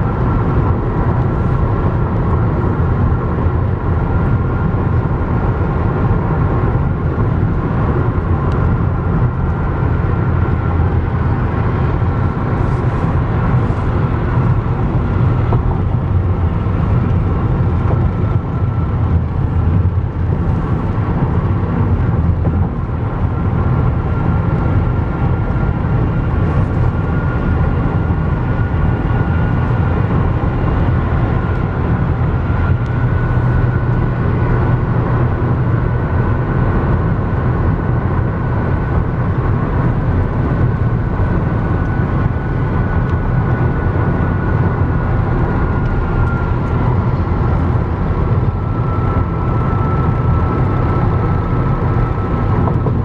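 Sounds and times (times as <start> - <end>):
car road noise rumble: 0.0 - 53.0.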